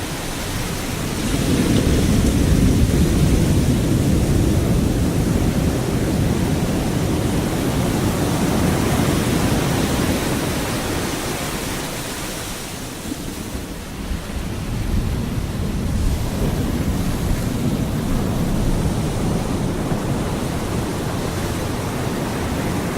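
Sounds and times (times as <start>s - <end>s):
surf washing onto beach: 0.0s - 22.9s
wind: 0.0s - 22.9s.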